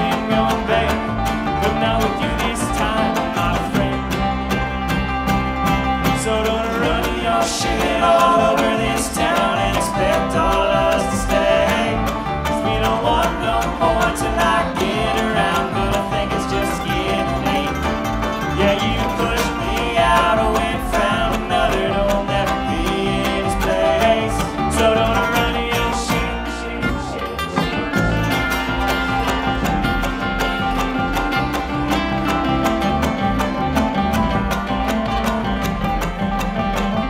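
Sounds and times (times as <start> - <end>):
acoustic guitar: 0.0 - 37.0
banjo picking: 0.0 - 37.0
mandolin: 0.0 - 37.0
upright bass: 0.0 - 37.0.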